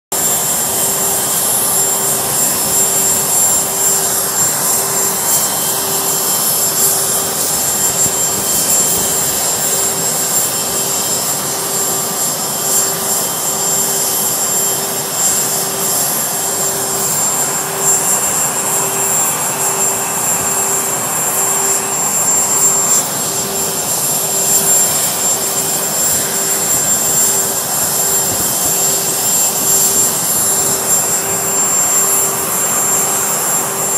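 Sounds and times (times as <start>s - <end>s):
high-pitched whine: 0.1s - 33.9s
jet engine roar: 0.1s - 33.9s.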